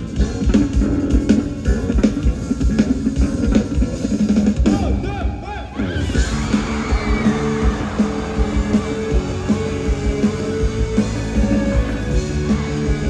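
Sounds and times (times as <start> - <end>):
live rock band playing: 0.0 - 5.1, 6.0 - 13.0.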